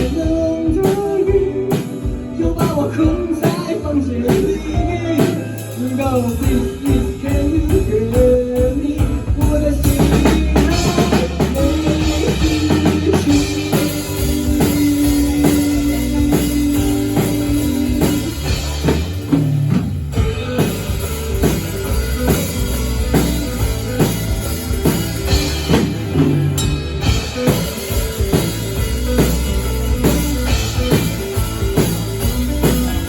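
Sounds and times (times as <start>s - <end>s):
drum kit beat: 0.0s - 33.0s
instrumental rock band: 0.0s - 33.0s.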